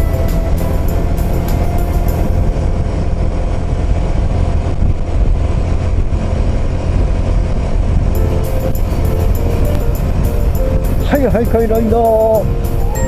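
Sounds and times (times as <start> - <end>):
motorcycle engine rumble: 0.0 - 13.0
wind noise: 0.0 - 13.0.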